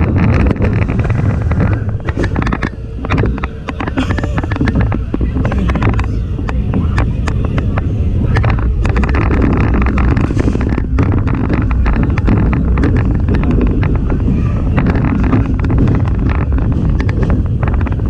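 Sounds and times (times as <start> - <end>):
rapid clicking and rattling: 0.0 - 18.0
roller coaster wheels rumbling: 0.0 - 18.0
wind buffeting microphone: 0.0 - 18.0.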